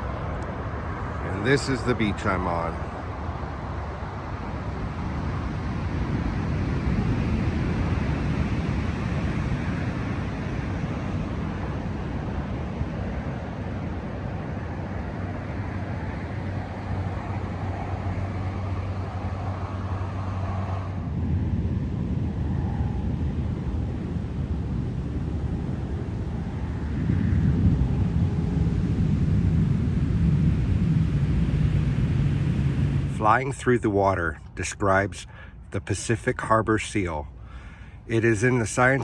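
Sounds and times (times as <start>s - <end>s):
low rumble of coast: 0.0s - 39.0s
low steady hum: 0.0s - 39.0s.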